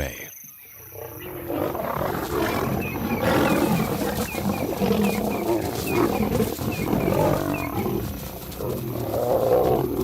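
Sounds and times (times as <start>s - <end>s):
lions growling and snarling: 0.8s - 10.0s.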